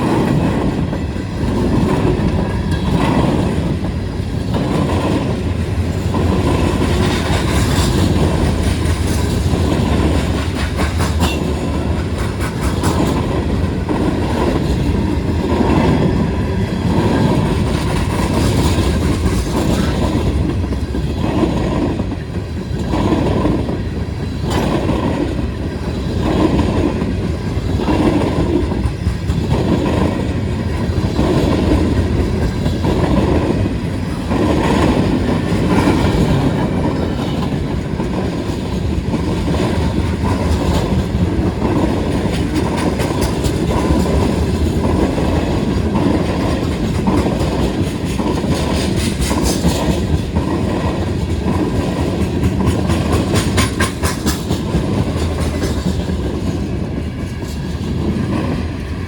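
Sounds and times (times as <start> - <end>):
train rumble: 0.0 - 59.0
train wheels clattering on rails: 0.0 - 59.0.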